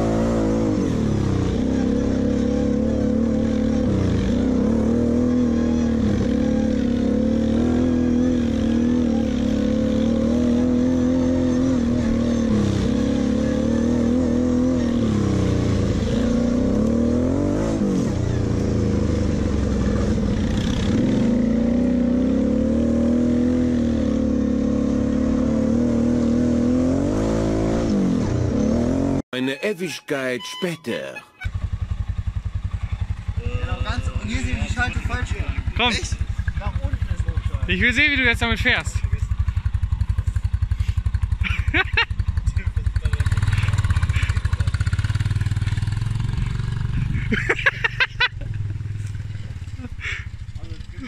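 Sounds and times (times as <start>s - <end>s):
quad bike engine revving: 0.0s - 29.2s, 31.5s - 51.0s.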